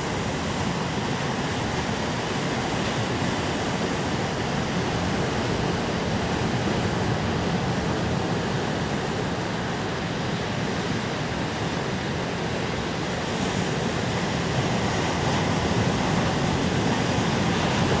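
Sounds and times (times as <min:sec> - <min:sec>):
waves breaking on rocky shore: 0:00.0 - 0:18.0.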